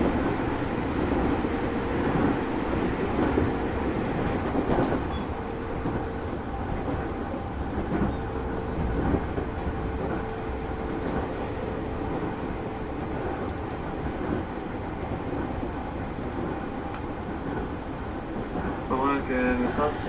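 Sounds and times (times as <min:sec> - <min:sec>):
rail-joint clicks: 0:00.0 - 0:15.6, 0:16.2 - 0:20.0
wheel and rail rumble: 0:00.0 - 0:20.0.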